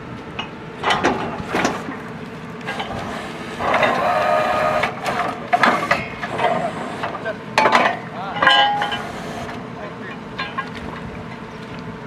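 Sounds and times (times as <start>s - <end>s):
drilling rig machinery running: 0.0s - 12.0s
pitched ringing whine: 0.0s - 12.0s.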